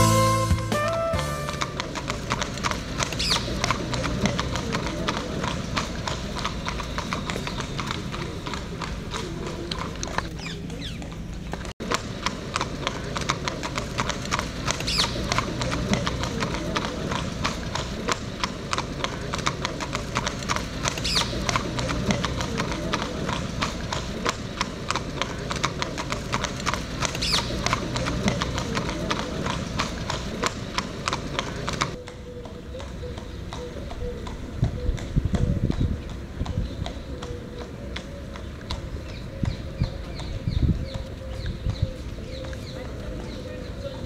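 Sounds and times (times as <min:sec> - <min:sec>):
horse hooves clip-clopping: 0:00.0 - 0:44.0.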